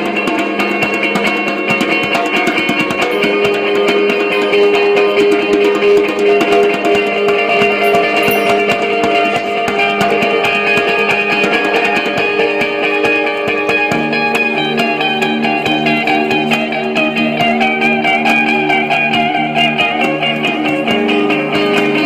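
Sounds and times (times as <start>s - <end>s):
guitar playing chords: 0.0s - 22.0s.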